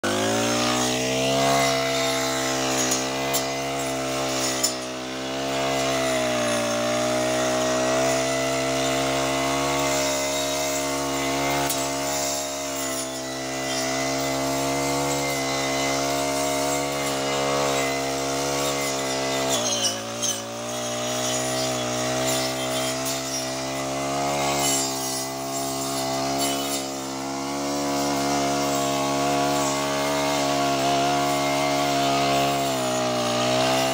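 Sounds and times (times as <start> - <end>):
brush cutter engine running: 0.0 - 33.9
cutting head clearing grass: 0.0 - 33.9.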